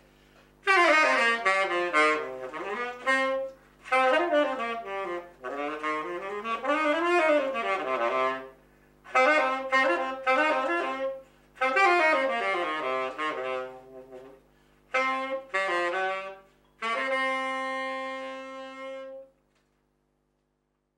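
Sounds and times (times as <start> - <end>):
saxophone playing: 0.6 - 19.4.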